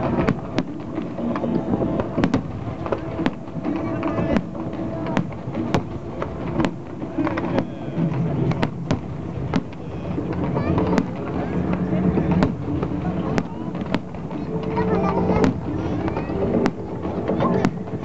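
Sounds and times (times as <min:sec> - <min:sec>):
background din: 0:00.0 - 0:18.0.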